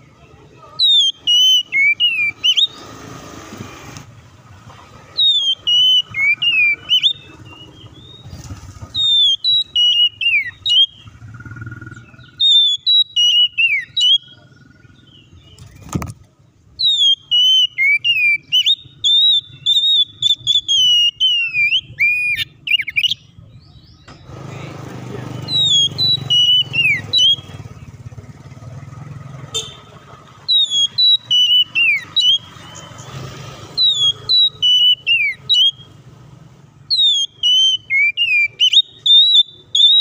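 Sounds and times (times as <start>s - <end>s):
bird singing whistled notes: 0.8s - 3.0s, 5.1s - 15.9s, 16.7s - 24.4s, 25.3s - 28.1s, 30.4s - 36.1s, 36.8s - 40.0s.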